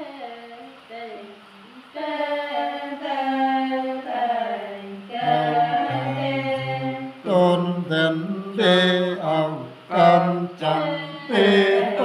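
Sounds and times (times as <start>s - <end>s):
men singing unaccompanied chant: 1.9s - 12.0s.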